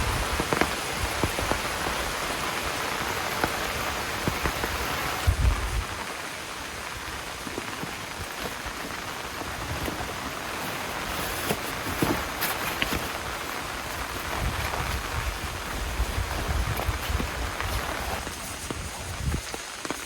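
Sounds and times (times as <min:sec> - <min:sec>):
heavy rain falling: 0:00.0 - 0:20.0
loud close raindrops: 0:00.0 - 0:20.0.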